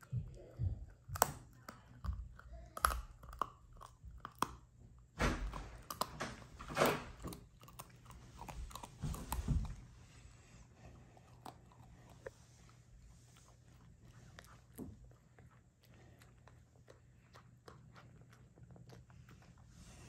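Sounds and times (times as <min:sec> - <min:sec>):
puppy crunching a treat: 0:00.0 - 0:20.0.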